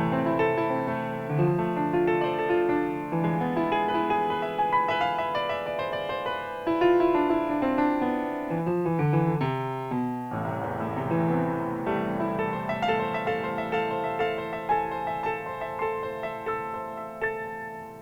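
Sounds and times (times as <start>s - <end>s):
piano playing fast notes: 0.0s - 18.0s.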